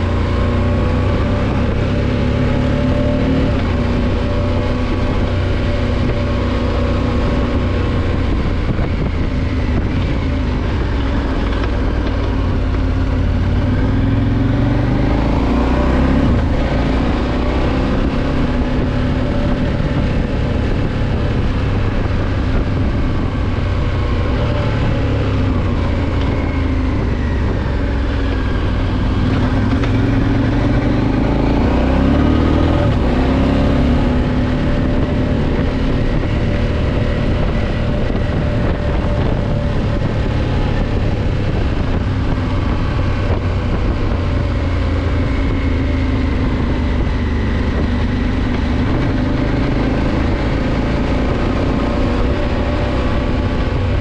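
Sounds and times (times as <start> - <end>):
motorcycle engine revving: 0.0 - 54.0
wind and tyre rushing noise: 0.0 - 54.0.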